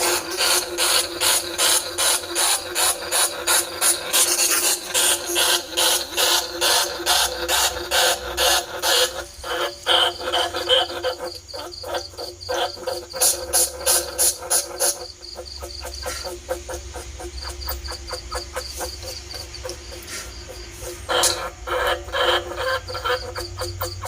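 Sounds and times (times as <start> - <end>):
rats chattering and squeaking: 0.0 - 24.0.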